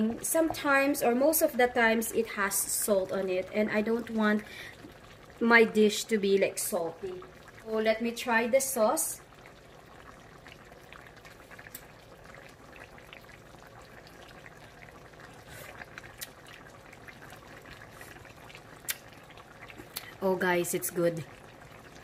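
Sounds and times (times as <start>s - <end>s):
sauce bubbling in a pot: 0.0s - 22.0s.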